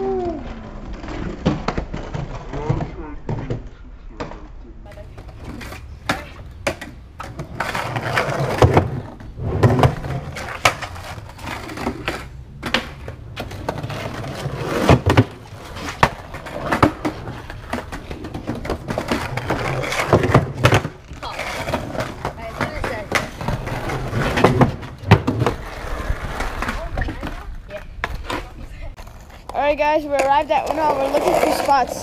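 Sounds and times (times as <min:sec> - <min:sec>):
skateboard wheels rolling on concrete: 0:00.0 - 0:32.0
skateboard clacking on ground: 0:00.1 - 0:32.0.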